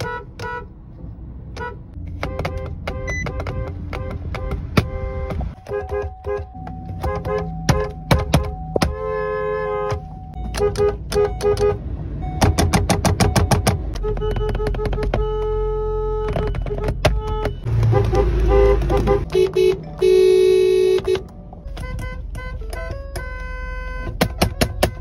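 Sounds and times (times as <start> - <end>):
car horns honking: 0.0 - 25.0.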